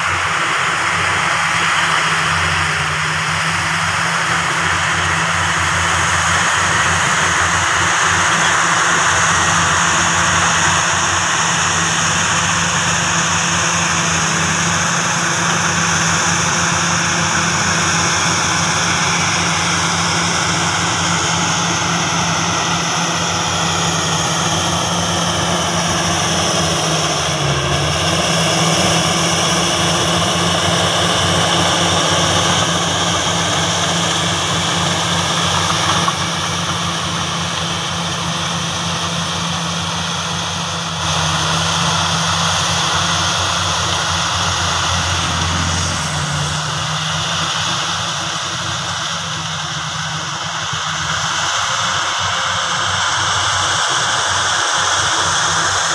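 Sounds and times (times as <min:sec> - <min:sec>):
diesel engines running: 0:00.0 - 0:55.9
high whine shifting in pitch: 0:00.0 - 0:55.9.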